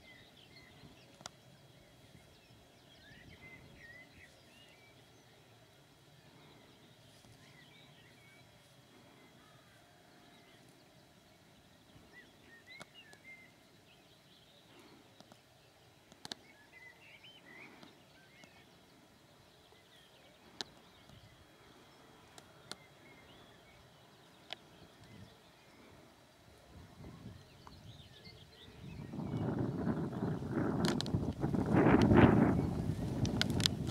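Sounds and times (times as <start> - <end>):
faint birdsong chirping: 0.0 - 33.9.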